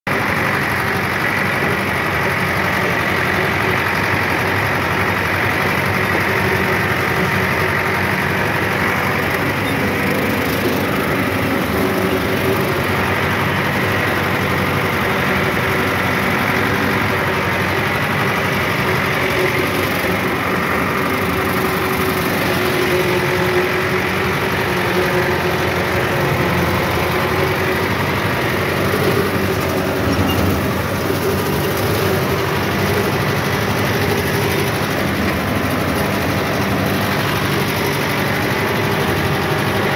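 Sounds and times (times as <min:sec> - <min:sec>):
steady mechanical whine: 0:00.1 - 0:39.9
tractor diesel engine running: 0:00.1 - 0:39.9.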